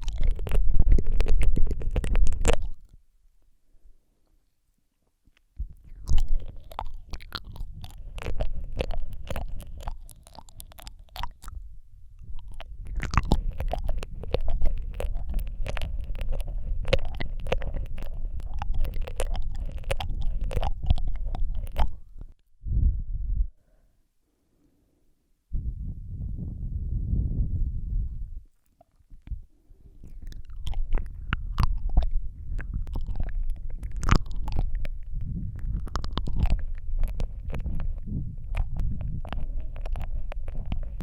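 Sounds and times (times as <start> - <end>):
tongue clicks and lip smacks: 0.0 - 3.0, 5.3 - 22.4, 28.1 - 41.0
low breathy rumble: 5.6 - 41.0.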